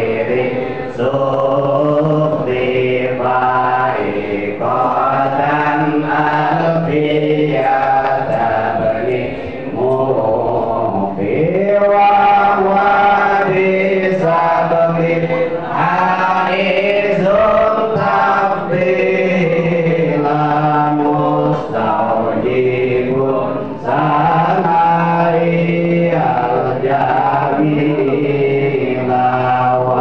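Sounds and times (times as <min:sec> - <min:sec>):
men chanting in unison: 0:00.0 - 0:30.0.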